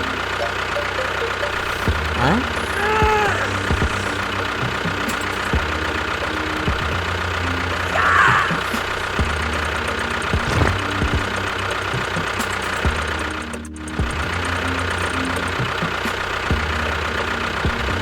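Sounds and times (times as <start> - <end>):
small engine running rough: 0.0 - 18.0.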